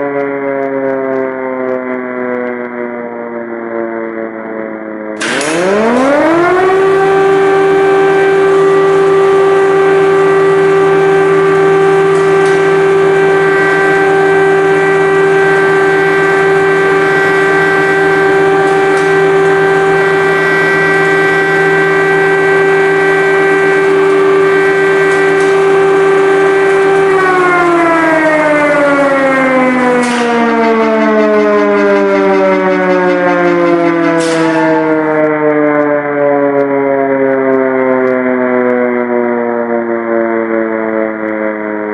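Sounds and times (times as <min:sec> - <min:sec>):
air-raid siren wailing: 0:00.0 - 0:41.9.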